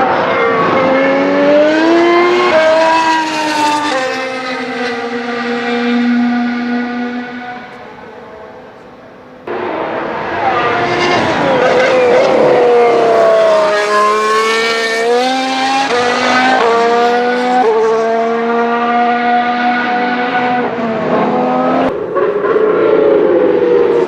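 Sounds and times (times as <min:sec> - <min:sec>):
racing car engine at high revs: 0:00.0 - 0:24.0.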